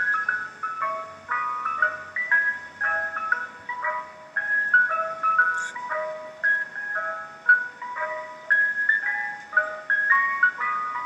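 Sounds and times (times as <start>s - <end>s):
ice cream truck jingle: 0.0s - 11.0s.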